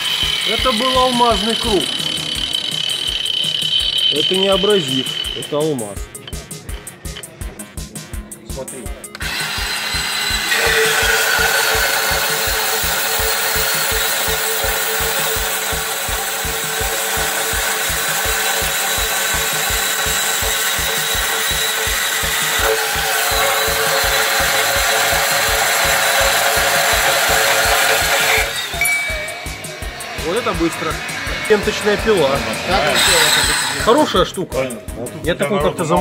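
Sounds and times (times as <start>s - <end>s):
band saw cutting metal: 0.0s - 7.3s, 9.0s - 34.5s.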